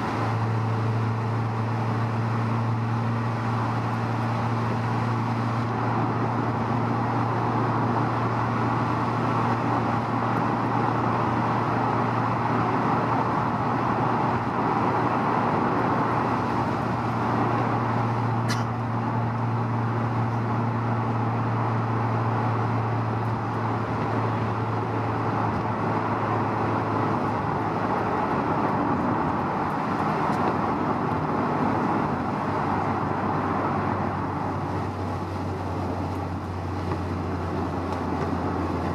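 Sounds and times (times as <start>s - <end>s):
car engine droning: 0.0s - 38.9s
tyre and road noise: 0.0s - 38.9s.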